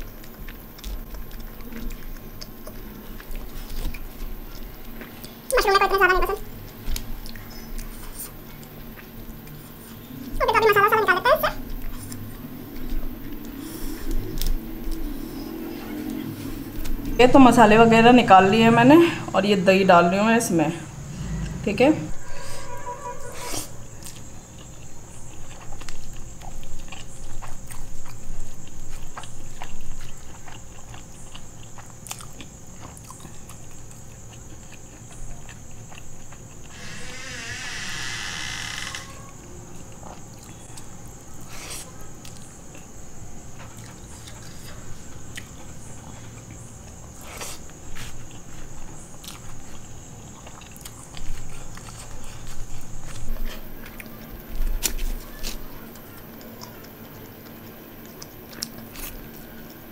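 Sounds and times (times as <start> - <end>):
chewing: 0.0 - 17.7, 22.2 - 36.7, 39.7 - 59.9.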